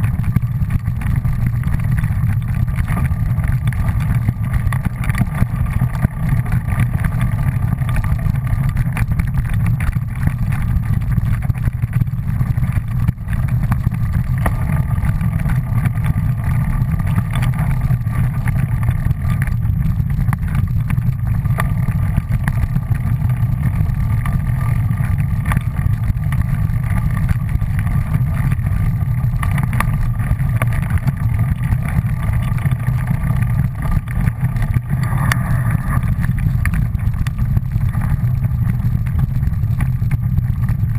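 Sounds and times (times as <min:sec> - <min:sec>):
low rumble of trail ride: 0:00.0 - 0:40.9.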